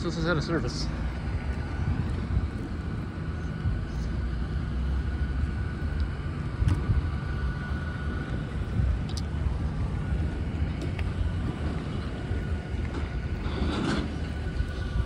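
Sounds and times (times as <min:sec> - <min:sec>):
bus engine rumbling: 0:00.0 - 0:15.0
faint steady whine: 0:00.0 - 0:15.0.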